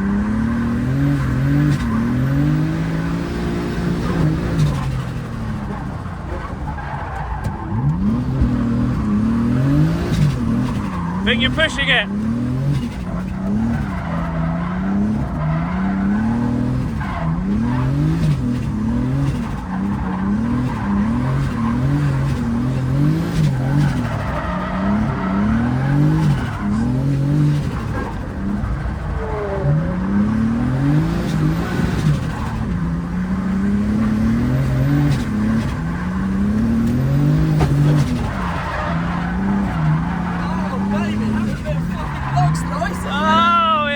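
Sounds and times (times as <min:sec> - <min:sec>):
car engine revving: 0:00.0 - 0:43.9
tyres skidding: 0:00.0 - 0:43.9.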